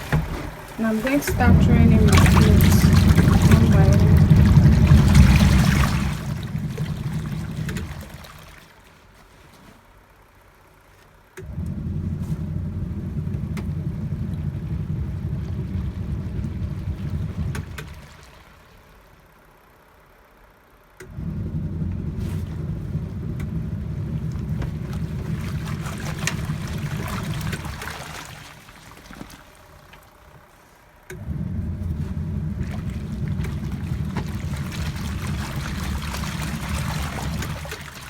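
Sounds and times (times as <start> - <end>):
washing machine churning water: 0.0 - 38.0.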